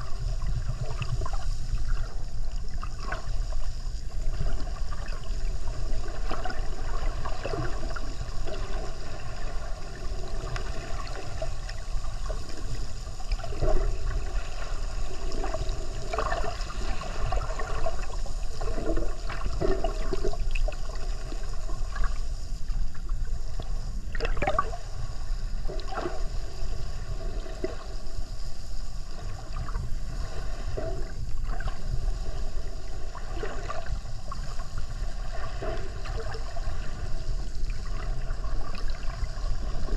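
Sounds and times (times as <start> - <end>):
underwater rumble: 0.0 - 39.9
water gurgles and bubbles: 0.0 - 39.9.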